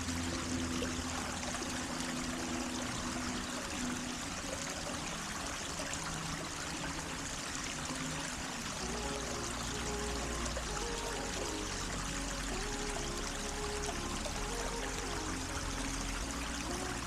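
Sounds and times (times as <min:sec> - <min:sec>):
water flowing and trickling: 0:00.0 - 0:17.0.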